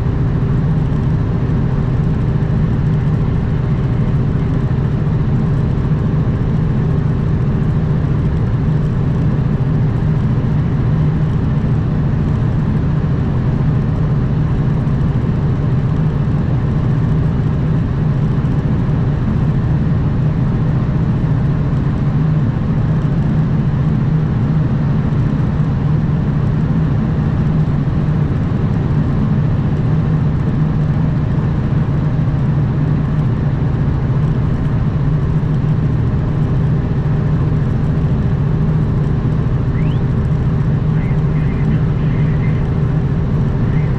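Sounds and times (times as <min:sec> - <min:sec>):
road and wind noise: 0:00.0 - 0:43.9
truck diesel engine running: 0:00.0 - 0:43.9.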